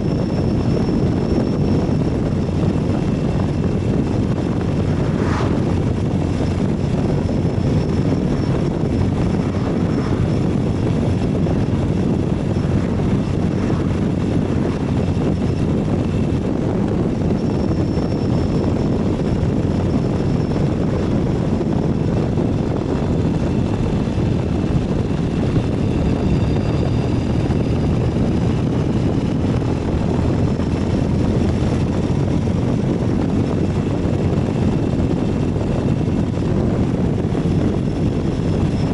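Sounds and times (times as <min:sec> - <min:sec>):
motorcycle engine cruising: 0:00.0 - 0:38.9
wind noise: 0:00.0 - 0:38.9.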